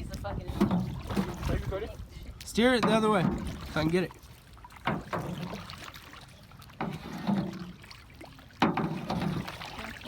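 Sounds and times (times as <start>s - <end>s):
paddles splashing in water: 0.0s - 10.0s.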